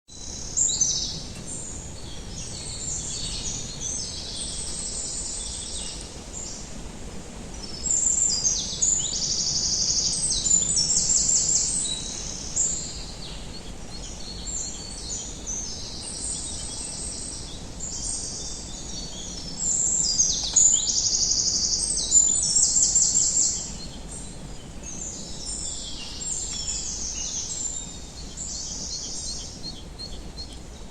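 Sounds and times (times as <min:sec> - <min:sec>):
songbirds trilling and chirping: 0:00.1 - 0:30.9.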